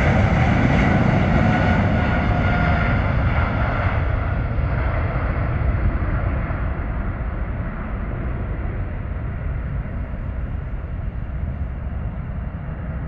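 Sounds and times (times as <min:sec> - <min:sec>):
jet engines rumbling at takeoff: 0:00.0 - 0:13.0.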